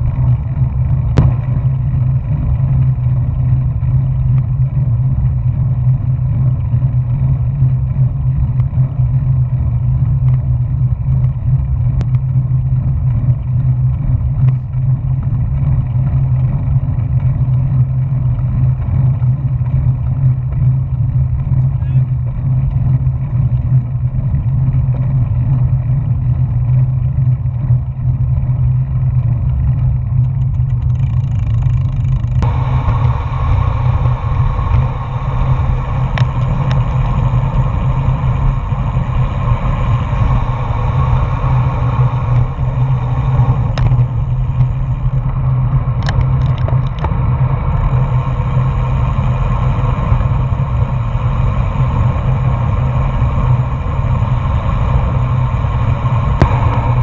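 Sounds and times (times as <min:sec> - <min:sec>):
tyre noise on tarmac: 0:00.0 - 0:57.0
wind rushing over microphone: 0:00.0 - 0:57.0.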